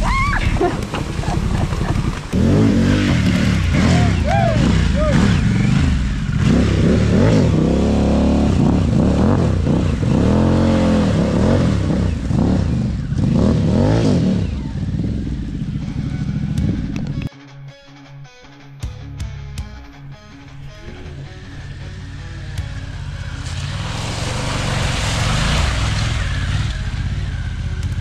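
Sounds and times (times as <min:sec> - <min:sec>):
motorcycle engine revving: 0:00.6 - 0:17.3, 0:20.7 - 0:28.0.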